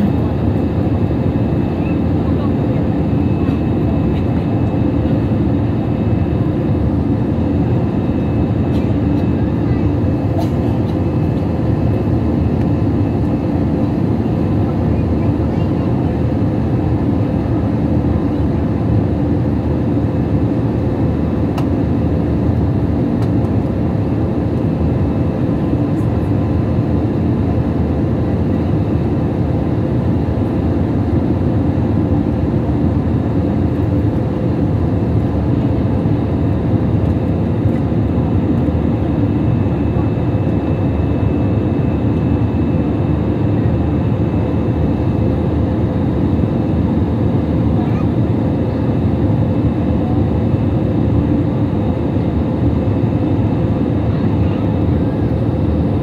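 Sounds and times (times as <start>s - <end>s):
airliner engine rumble in cabin: 0.0s - 56.0s.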